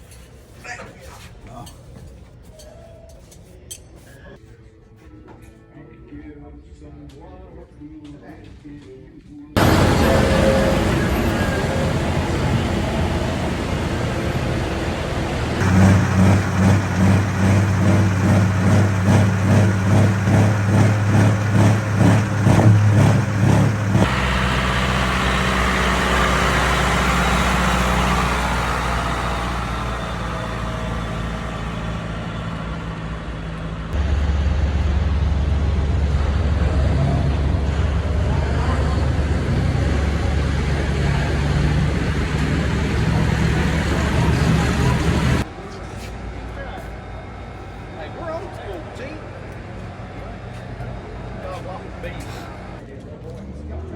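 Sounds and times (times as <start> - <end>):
heavy tractor engines running: 9.6 - 53.9.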